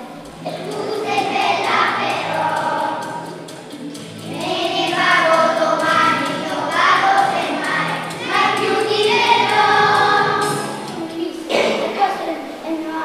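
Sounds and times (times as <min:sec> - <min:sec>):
children's choir singing: 0:00.0 - 0:11.8.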